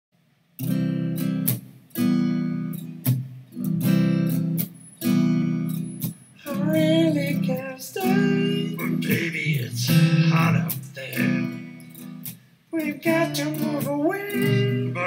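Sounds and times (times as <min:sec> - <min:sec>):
acoustic guitar strumming: 0:00.6 - 0:15.0.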